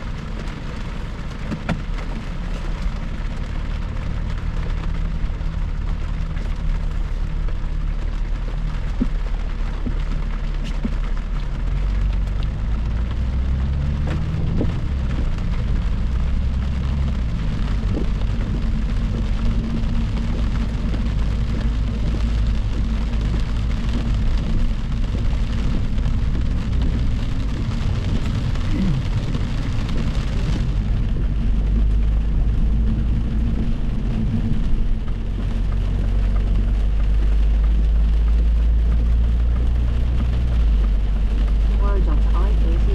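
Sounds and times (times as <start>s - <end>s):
low engine hum: 0.0s - 42.9s.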